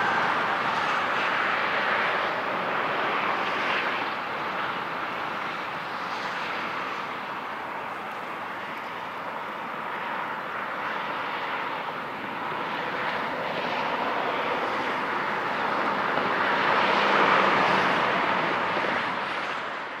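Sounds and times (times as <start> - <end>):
distant jet engines rushing: 0.0 - 20.0.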